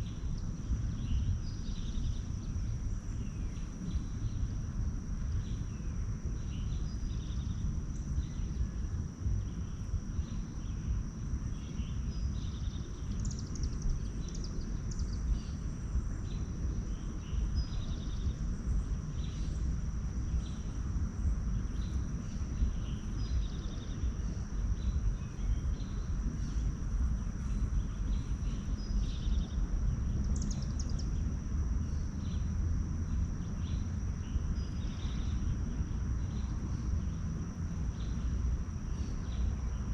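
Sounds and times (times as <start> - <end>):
low rumble: 0.0 - 39.9
songbirds chirping: 0.0 - 39.9.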